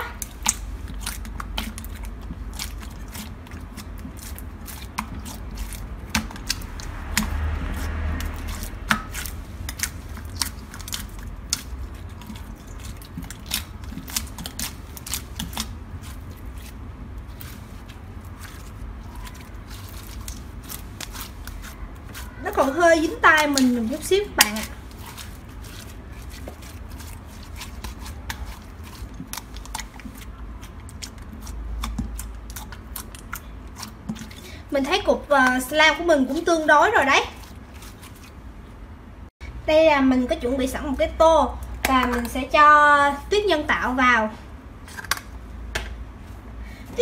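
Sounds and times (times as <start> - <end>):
slime squish: 0.0 - 38.8.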